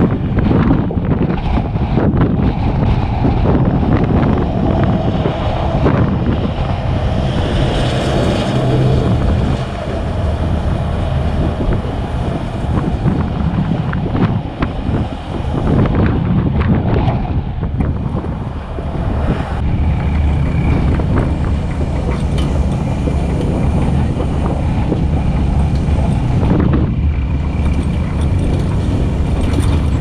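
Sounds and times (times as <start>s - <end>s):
highway traffic: 0.0s - 30.0s
wind buffeting microphone: 0.0s - 30.0s.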